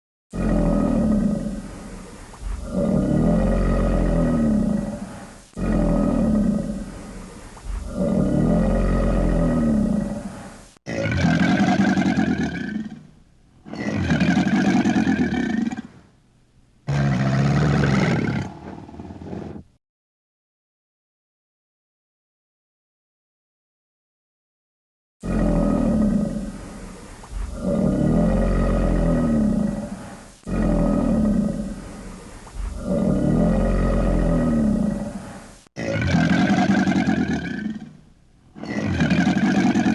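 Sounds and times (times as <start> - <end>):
crocodilian bellowing: 0.3 - 16.0, 16.9 - 19.6, 25.2 - 38.0, 38.6 - 39.9.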